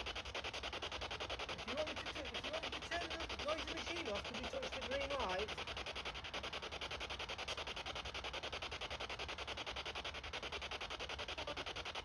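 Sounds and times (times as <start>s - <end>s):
rapid pulsing static: 0.0s - 12.0s.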